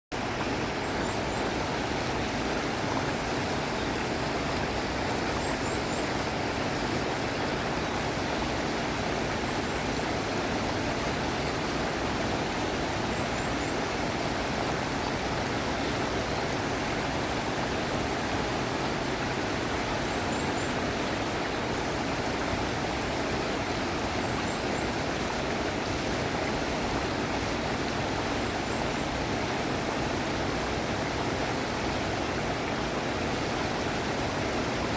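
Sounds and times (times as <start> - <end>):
stream rushing water: 0.1 - 34.9.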